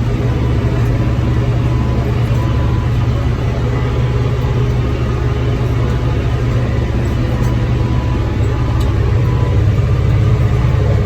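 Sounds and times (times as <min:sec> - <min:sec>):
tractor engine rumbling: 0:00.0 - 0:11.0.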